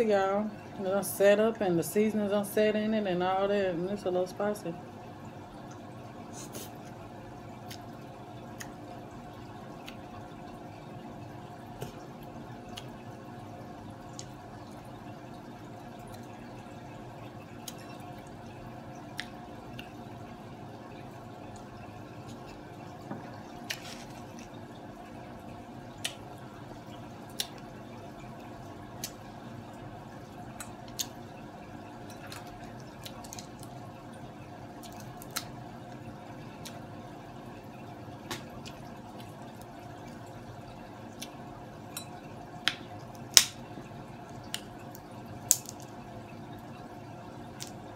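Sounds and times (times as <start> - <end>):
fish tank filter humming: 0.0 - 47.9
trickling water: 0.0 - 47.9.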